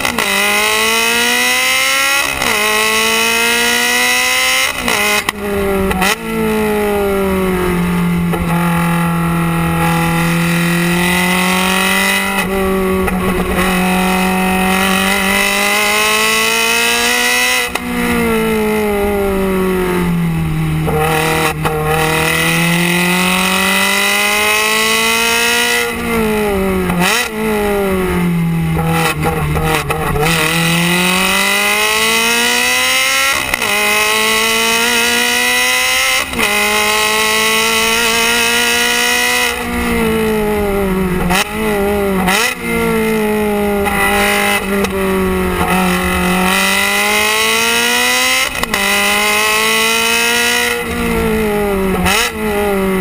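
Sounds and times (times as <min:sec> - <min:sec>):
sports car exhaust revving: 0:00.0 - 0:53.0.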